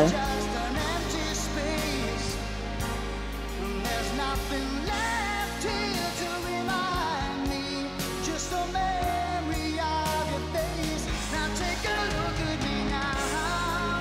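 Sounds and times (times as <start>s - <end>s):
pop music with singing: 0.0s - 14.0s.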